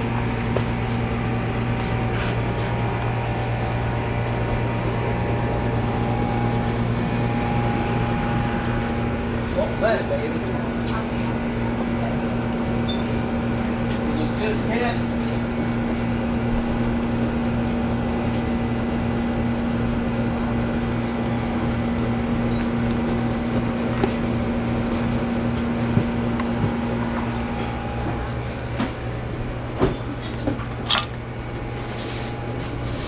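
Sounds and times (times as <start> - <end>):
mechanical hum: 0.0 - 33.0.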